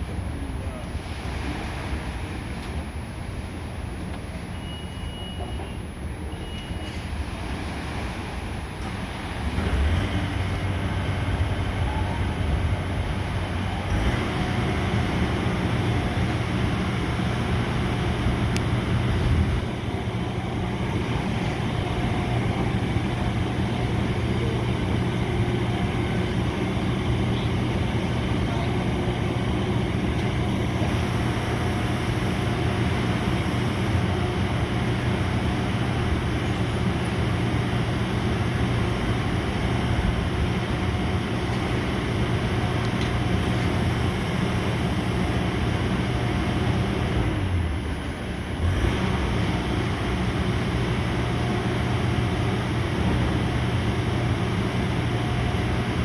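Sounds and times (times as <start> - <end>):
water wash: 0.0 - 4.1, 6.4 - 56.0
boat engine humming: 0.0 - 56.0.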